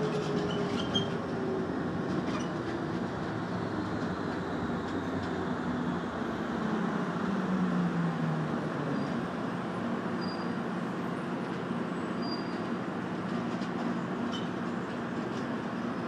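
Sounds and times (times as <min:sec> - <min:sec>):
train rumble and motor hum: 0:00.0 - 0:16.0.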